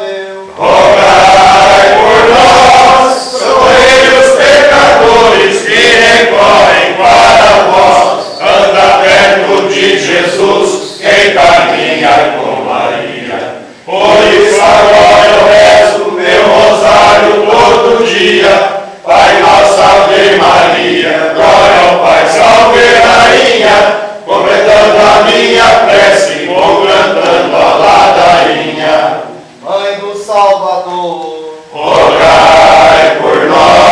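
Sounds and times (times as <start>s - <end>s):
men chanting together: 0.0s - 29.4s, 31.7s - 33.9s.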